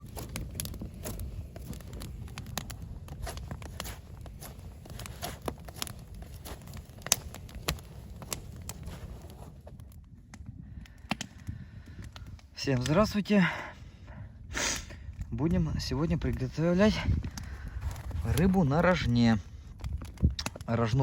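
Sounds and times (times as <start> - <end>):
campfire crackling: 0.0 - 21.0
fire popping and snapping: 0.0 - 21.0.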